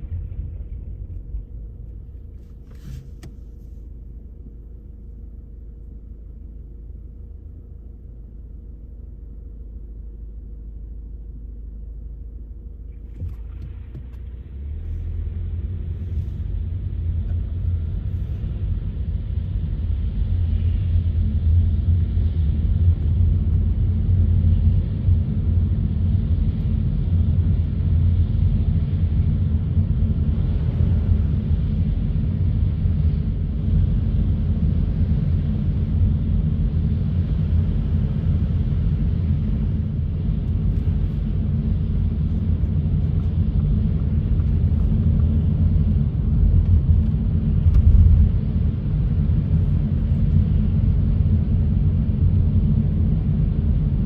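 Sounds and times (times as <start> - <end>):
car engine rumble from inside: 0.0 - 54.0.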